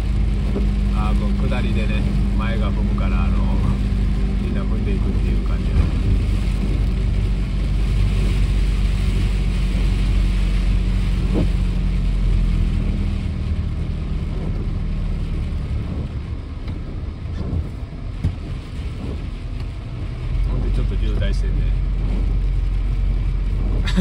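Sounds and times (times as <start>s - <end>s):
car engine and tyres on wet road: 0.0s - 24.0s
rain and spray hissing: 0.0s - 24.0s.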